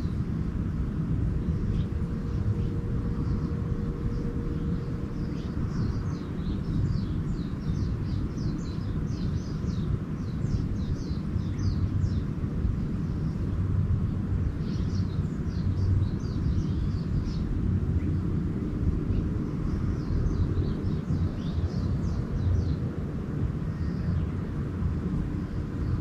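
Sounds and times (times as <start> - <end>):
small birds twittering: 0.0 - 26.0
steady low rumble: 0.0 - 26.0.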